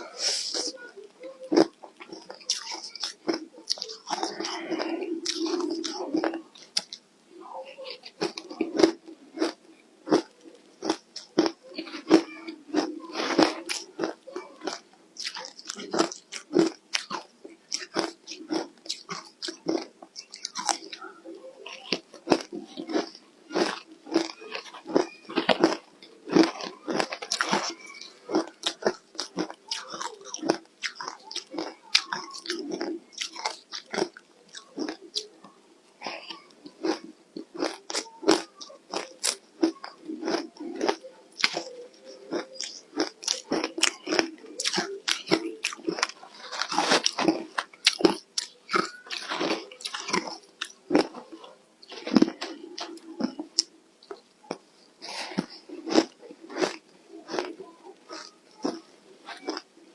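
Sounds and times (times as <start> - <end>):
crunchy ice chewing: 8.0 - 21.0, 21.7 - 35.3, 36.3 - 59.7.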